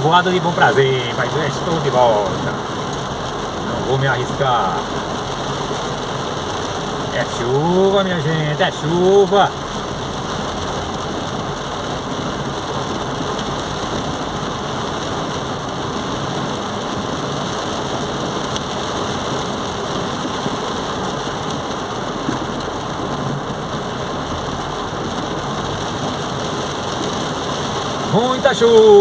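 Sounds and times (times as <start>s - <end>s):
heavy rain on car roof: 0.0s - 29.0s.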